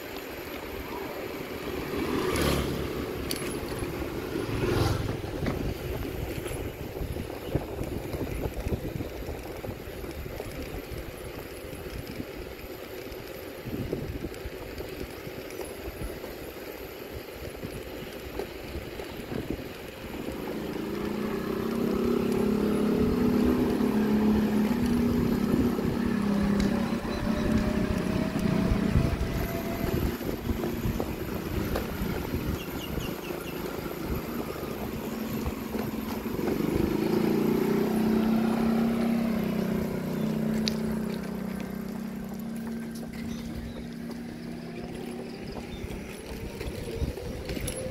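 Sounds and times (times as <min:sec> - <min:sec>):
vehicle engine hum: 0:00.0 - 0:47.9
wind rumbling on microphone: 0:00.8 - 0:47.9.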